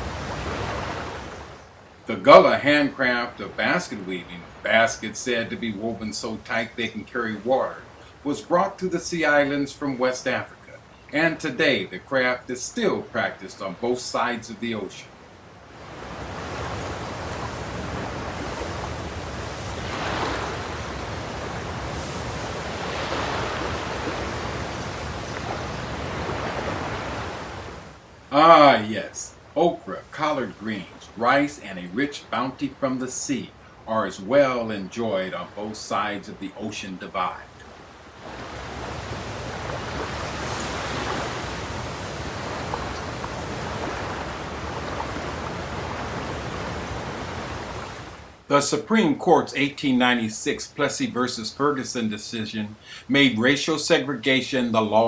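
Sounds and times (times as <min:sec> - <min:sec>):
ocean waves rushing: 0:00.0 - 0:55.0.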